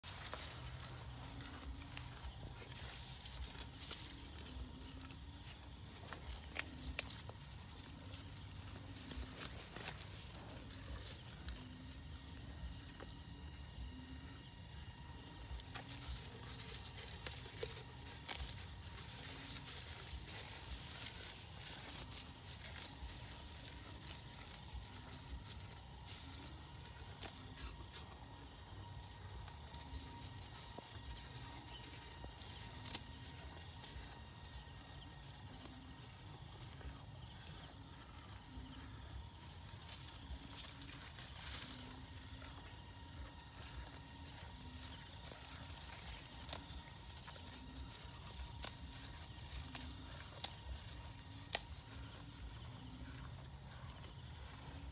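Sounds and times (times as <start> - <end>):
insects chirping trill: 0.0 - 54.9.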